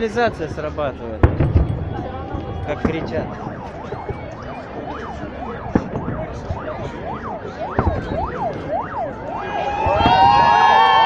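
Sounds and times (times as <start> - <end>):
fireworks bangs: 0.0 - 11.0
car alarm siren wailing: 1.7 - 11.0.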